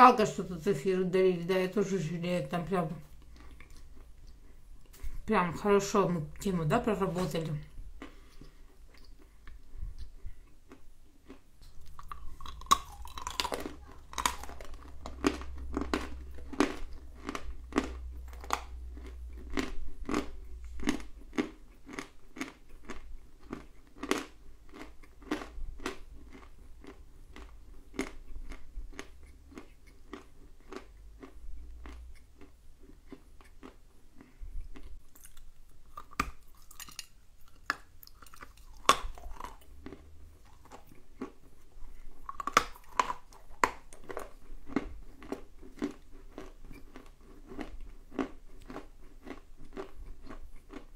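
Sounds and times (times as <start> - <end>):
person chewing crunchy clay: 3.0 - 5.2, 7.1 - 50.9.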